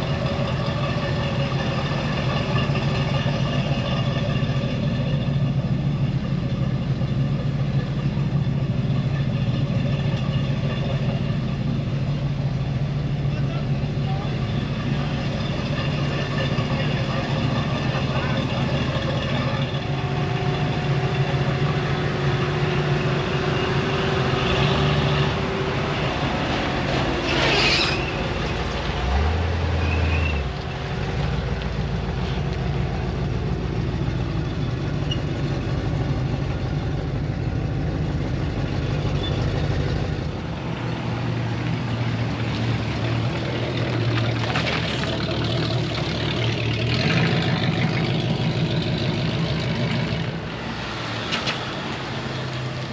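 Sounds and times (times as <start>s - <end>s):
pickup truck engines idling: 0.0s - 52.9s.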